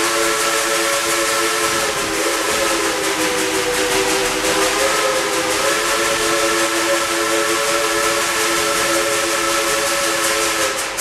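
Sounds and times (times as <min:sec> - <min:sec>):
steam train whistle tones: 0:00.0 - 0:11.0.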